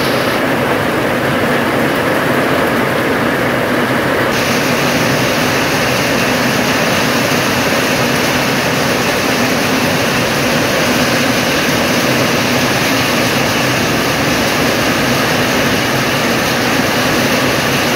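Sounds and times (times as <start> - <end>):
heavy rain: 0.0 - 17.9.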